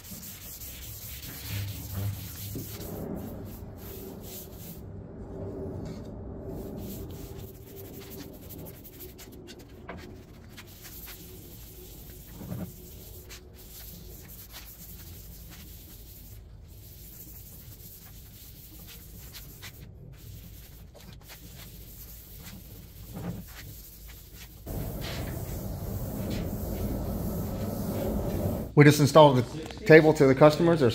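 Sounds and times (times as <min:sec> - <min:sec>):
brush scratching on wood: 0:00.0 - 0:04.8, 0:06.5 - 0:28.7.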